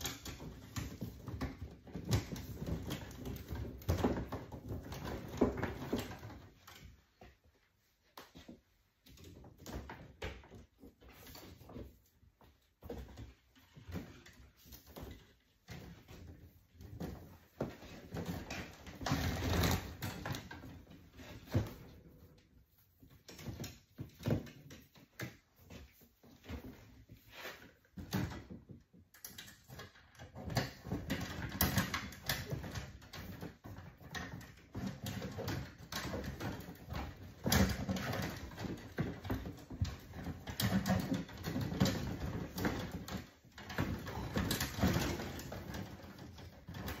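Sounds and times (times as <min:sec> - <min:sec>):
electrical cables rustling and scraping: 0:00.0 - 0:47.0.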